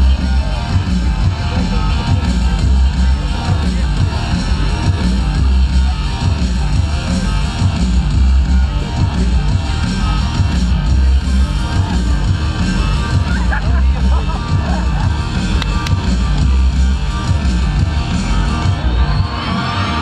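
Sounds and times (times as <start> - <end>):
loud rock music: 0.0 - 20.0.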